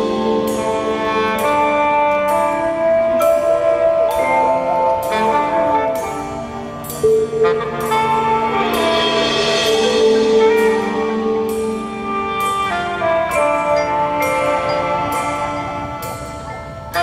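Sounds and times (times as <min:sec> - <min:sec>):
mallet percussion: 0:00.0 - 0:17.0
marching band playing: 0:00.0 - 0:17.0.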